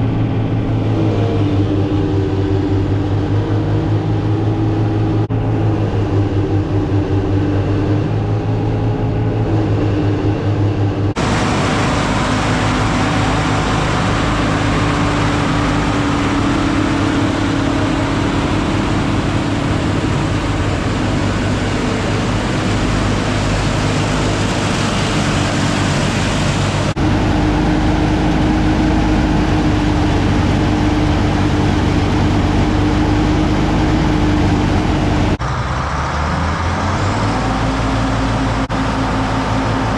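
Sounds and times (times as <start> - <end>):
machinery rushing noise: 0.0 - 39.9
tractor engine running: 0.0 - 39.9.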